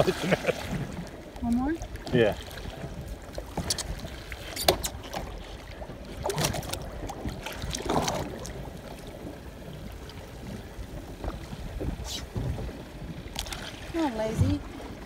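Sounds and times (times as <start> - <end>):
water slapping boat hull: 0.0 - 15.0
wind rumbling on microphone: 0.0 - 15.0.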